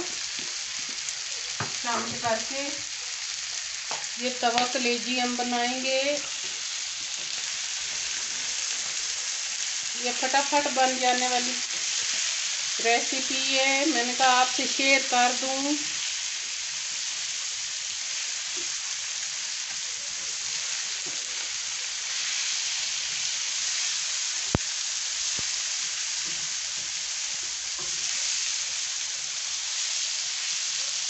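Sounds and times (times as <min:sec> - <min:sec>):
chicken livers sizzling on a griddle: 0:00.0 - 0:31.0.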